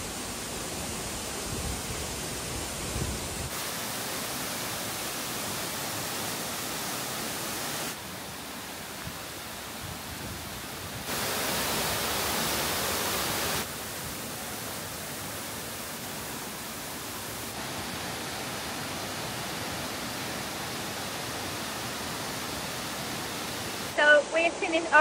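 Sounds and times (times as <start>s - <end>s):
waterfall rushing water: 0.0s - 25.0s.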